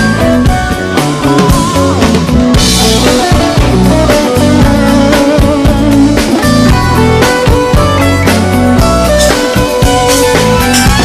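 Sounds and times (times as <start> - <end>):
bass guitar: 0.0 - 11.0
drum kit: 0.0 - 11.0
electric guitar lead with bent notes: 0.0 - 11.0.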